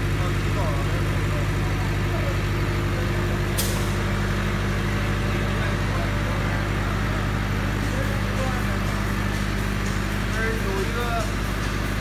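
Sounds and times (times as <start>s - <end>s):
generator diesel engine droning: 0.0s - 12.0s.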